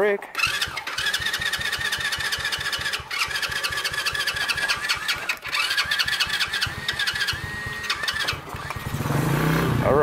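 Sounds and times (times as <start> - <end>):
engine cranking on electric starter: 0.3 - 10.0.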